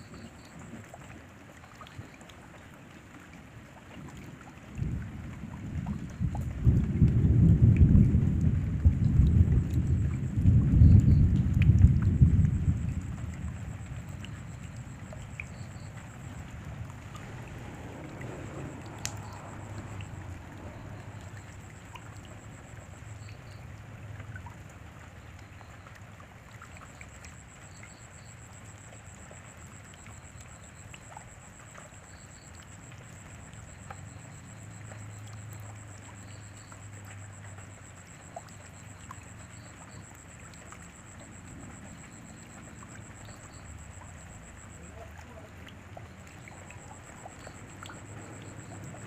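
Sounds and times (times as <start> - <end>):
rain falling with drips: 0.0 - 49.0.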